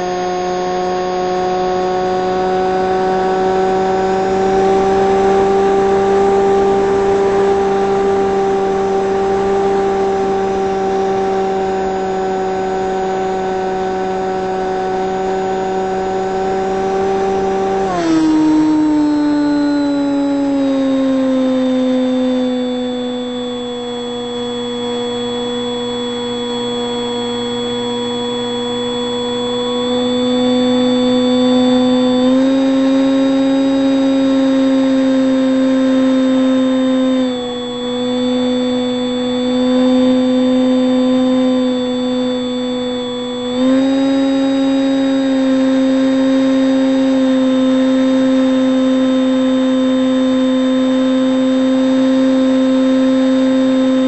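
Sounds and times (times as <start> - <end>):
model plane motor whine: 0.0 - 54.0.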